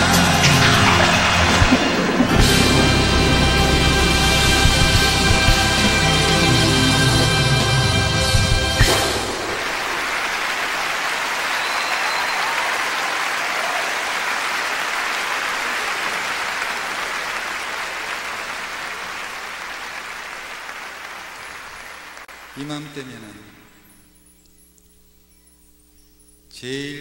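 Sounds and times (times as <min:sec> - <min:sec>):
audience applauding: 0:00.0 - 0:23.7.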